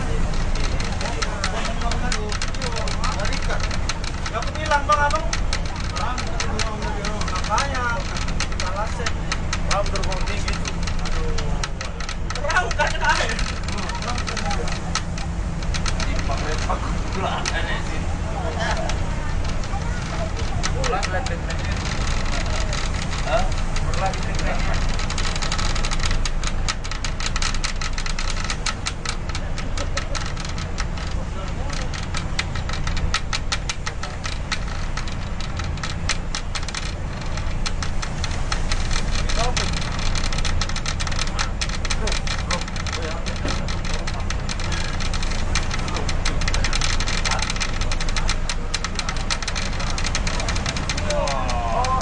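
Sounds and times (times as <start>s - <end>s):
patter of sharp ticks: 0.0s - 52.0s.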